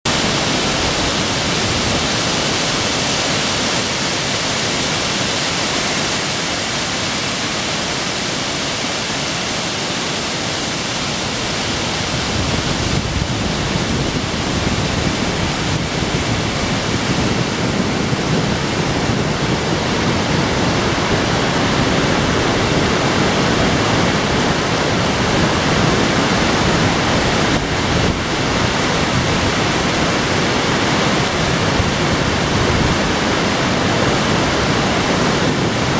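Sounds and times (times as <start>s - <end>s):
waterfall rushing over rocks: 0.1s - 35.9s.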